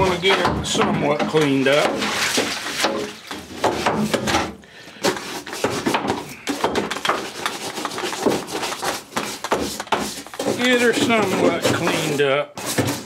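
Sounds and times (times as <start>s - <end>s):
brush scraping metal walls: 0.0s - 13.0s.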